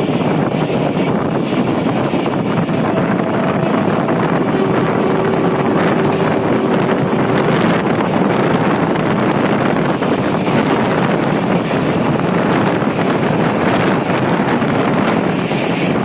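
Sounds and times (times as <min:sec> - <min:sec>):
train rumble and air rush: 0:00.0 - 0:16.0
wind buffeting microphone: 0:00.0 - 0:16.0.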